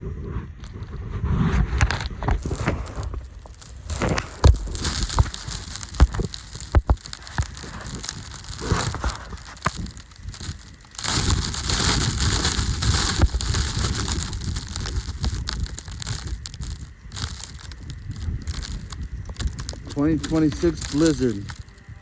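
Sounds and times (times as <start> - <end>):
crackles and crunches: 0.0 - 22.0
wind buffeting microphone: 0.0 - 22.0.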